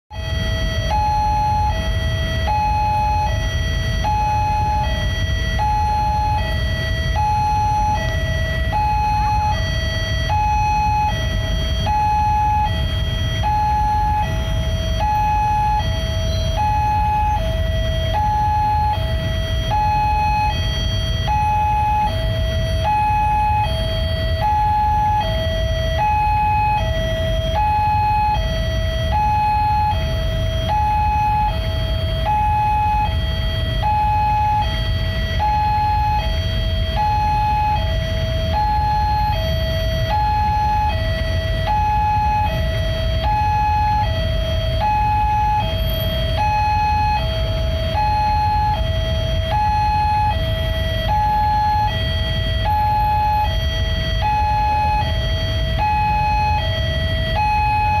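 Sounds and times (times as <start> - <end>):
level-crossing two-tone alarm: 0.1 - 58.0
idling cars and motorbikes: 0.8 - 58.0.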